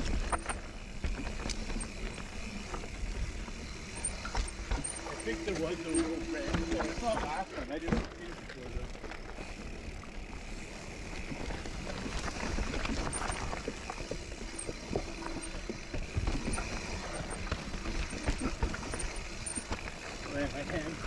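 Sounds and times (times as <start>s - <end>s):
bike rattling: 0.0s - 21.0s
tyre and trail noise: 0.0s - 21.0s.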